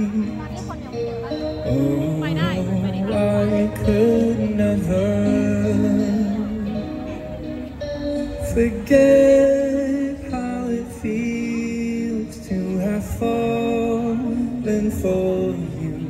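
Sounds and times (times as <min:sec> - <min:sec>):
song with held notes: 0:00.0 - 0:16.0.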